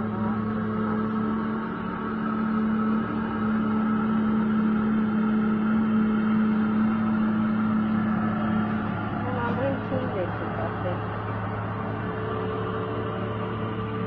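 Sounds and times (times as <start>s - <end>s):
heavy machine engine drone: 0.0s - 14.0s.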